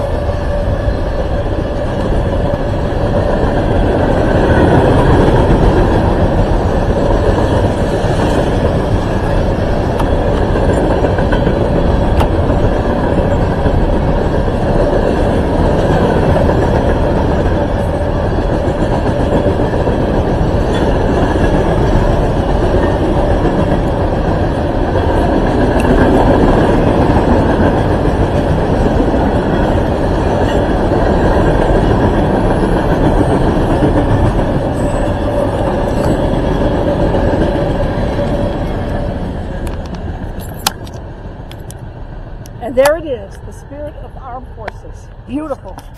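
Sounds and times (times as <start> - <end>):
freight train rolling past: 0.0 - 45.9
steel wheels rumbling on rails: 0.0 - 45.9.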